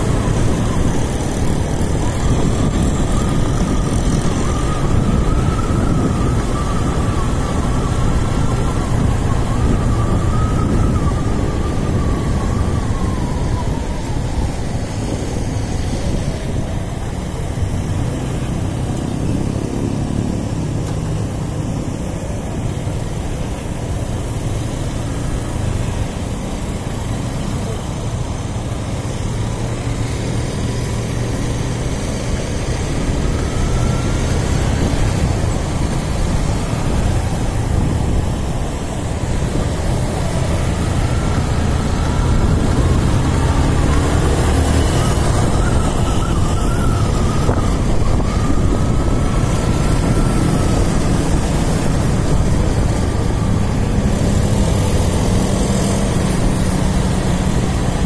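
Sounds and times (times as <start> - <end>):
motorcycle engine rumble: 0.0 - 58.0
wind noise: 0.0 - 58.0.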